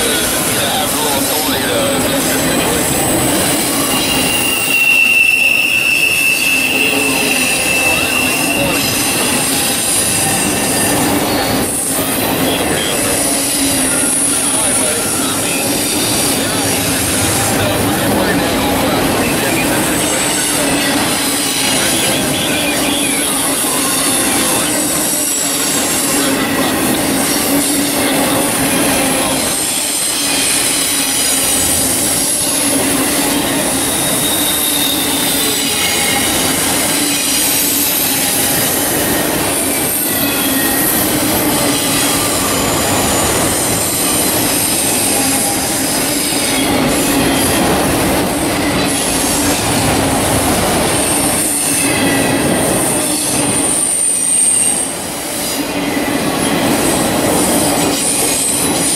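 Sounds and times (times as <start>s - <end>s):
high wheel squeals: 0.0s - 58.9s
train wheels rumbling on rails: 0.0s - 58.9s.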